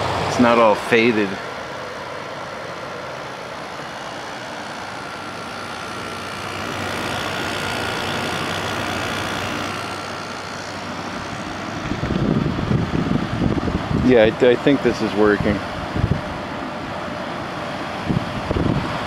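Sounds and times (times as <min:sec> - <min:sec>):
faint steady whine: 0:00.0 - 0:19.0
window air conditioner humming: 0:00.0 - 0:19.0.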